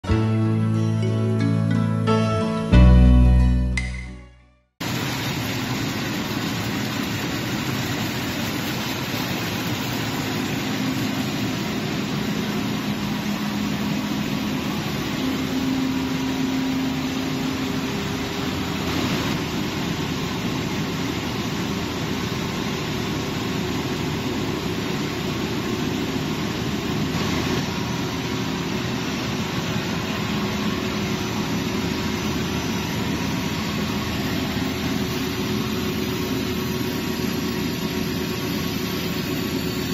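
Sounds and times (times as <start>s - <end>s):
low motor hum: 4.8s - 39.9s
pulp processing machinery rushing: 4.8s - 39.9s.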